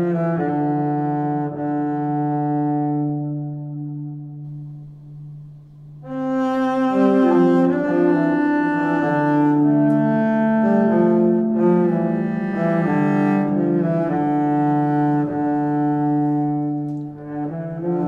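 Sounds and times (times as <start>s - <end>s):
bowed strings music: 0.0s - 18.0s.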